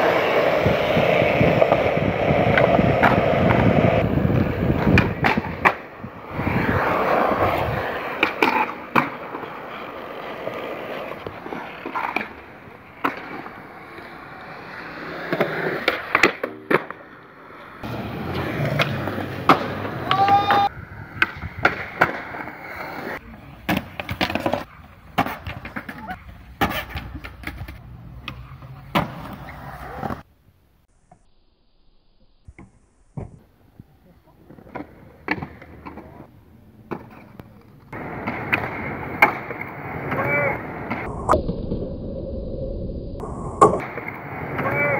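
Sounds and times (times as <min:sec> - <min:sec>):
skateboard clacking: 0:00.0 - 0:30.3, 0:34.3 - 0:41.3, 0:43.6 - 0:44.9
skateboard wheels rolling on concrete: 0:00.0 - 0:31.3, 0:32.4 - 0:44.9.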